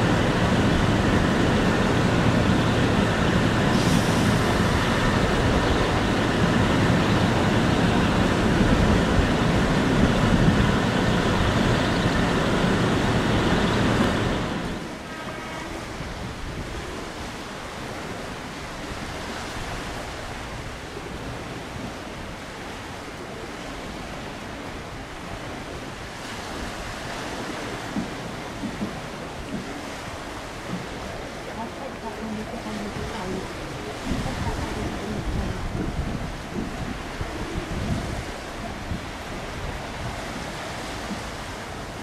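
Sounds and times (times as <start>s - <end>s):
train running close by: 0.0s - 42.0s
waves: 0.0s - 42.0s
wind: 0.0s - 42.0s.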